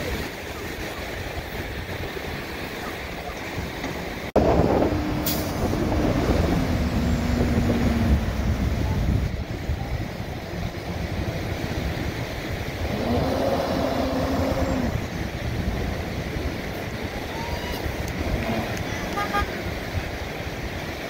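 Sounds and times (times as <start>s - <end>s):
truck engines running: 0.0s - 21.0s.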